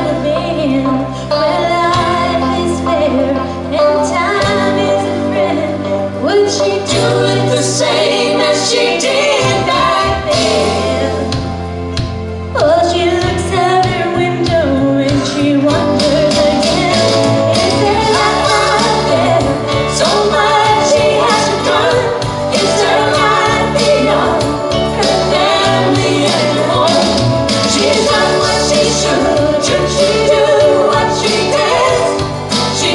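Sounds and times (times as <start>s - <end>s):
woman singing: 0.0s - 11.4s, 12.6s - 32.9s
bass line: 0.0s - 32.9s
drums: 0.0s - 32.9s.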